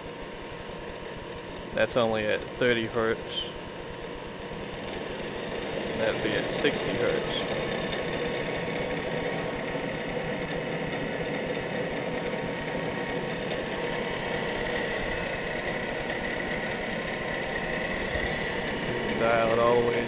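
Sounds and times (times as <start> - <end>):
high motor whine: 0.0 - 20.0
milling machine running: 0.0 - 20.0.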